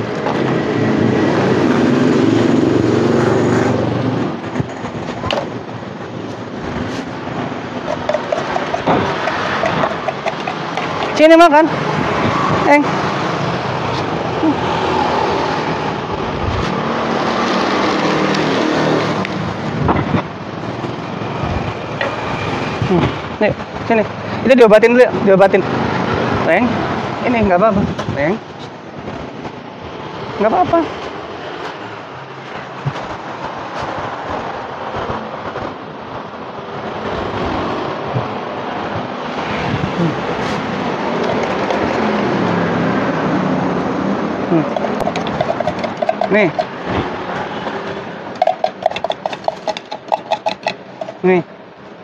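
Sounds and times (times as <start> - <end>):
passing vehicle traffic: 0.0 - 52.0
street noise: 0.0 - 52.0.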